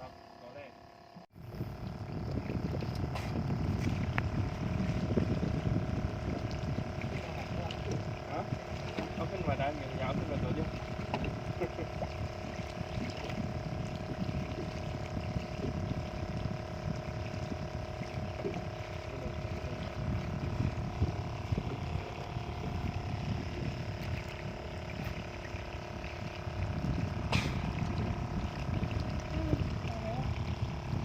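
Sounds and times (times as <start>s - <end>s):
faint steady drone: 0.0s - 31.0s
wind buffeting microphone: 1.4s - 31.0s.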